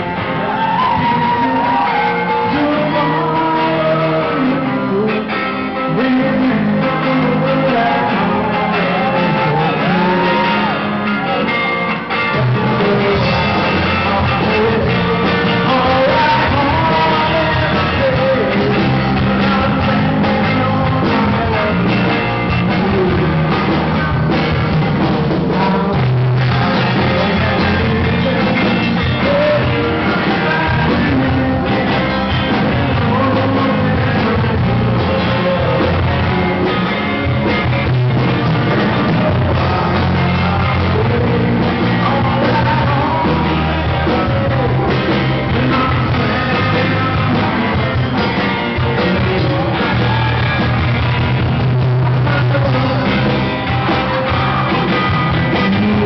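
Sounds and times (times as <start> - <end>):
man singing: 0.0 - 56.0
rock band playing: 0.0 - 56.0.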